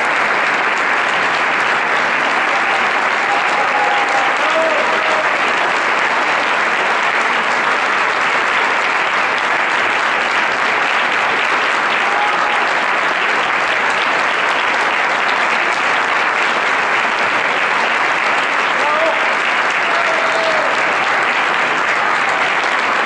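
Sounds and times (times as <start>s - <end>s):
audience applause: 0.0s - 23.0s
choir clapping along: 0.0s - 23.0s.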